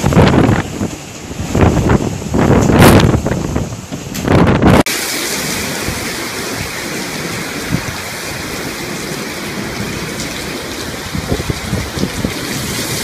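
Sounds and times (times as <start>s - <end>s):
heavy rain pouring: 0.0s - 13.0s
wind gusting on microphone: 0.0s - 13.0s.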